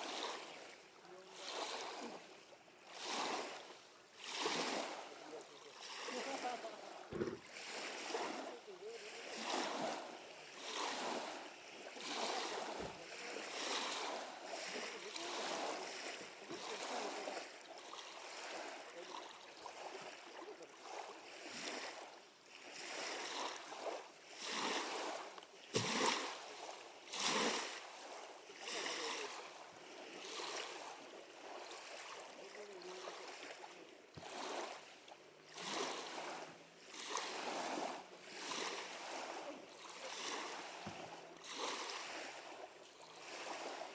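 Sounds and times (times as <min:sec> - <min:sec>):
small waves lapping: 0:00.0 - 0:43.9.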